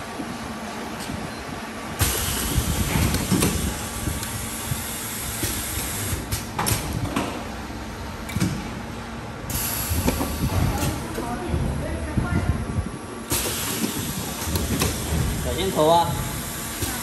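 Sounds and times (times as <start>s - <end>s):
industrial machinery humming: 0.0s - 17.0s.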